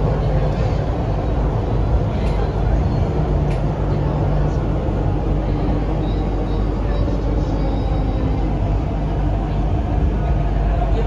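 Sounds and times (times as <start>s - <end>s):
train rumble from inside carriage: 0.0s - 11.0s.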